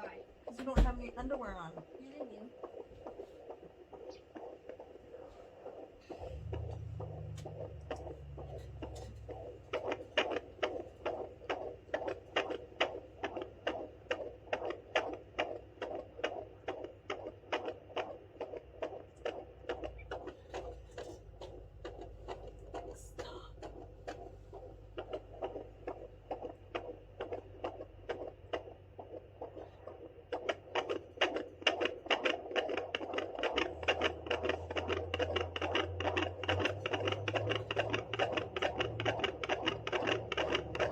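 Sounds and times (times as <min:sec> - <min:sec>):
fetal heartbeat whooshing pulse: 0:00.0 - 0:40.9
low hum: 0:00.9 - 0:40.9.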